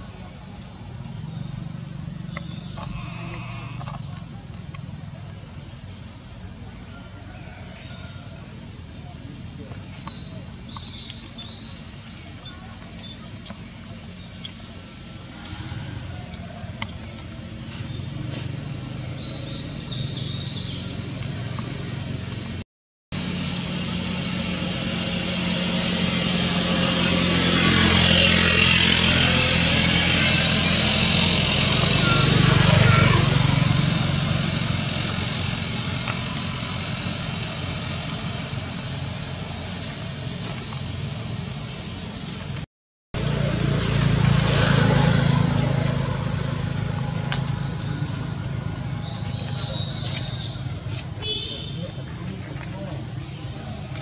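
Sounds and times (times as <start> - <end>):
low engine hum: 0.0 - 22.6, 23.2 - 54.0.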